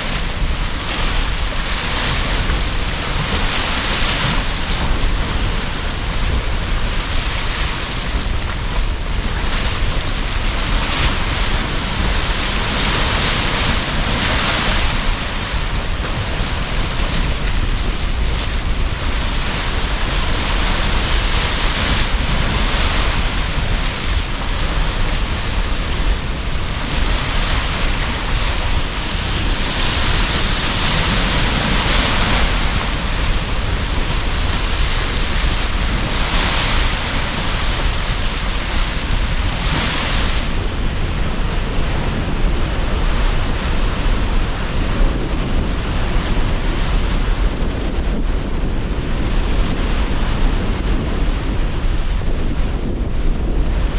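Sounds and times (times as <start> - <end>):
strong wind rushing: 0.0 - 53.9
waves breaking: 0.0 - 53.9.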